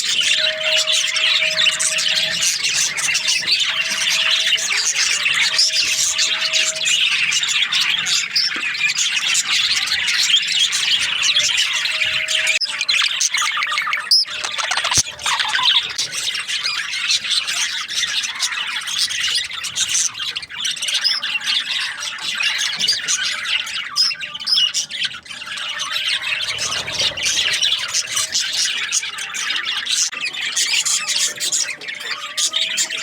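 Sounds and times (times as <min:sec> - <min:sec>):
budgerigars chattering: 0:00.0 - 0:33.0.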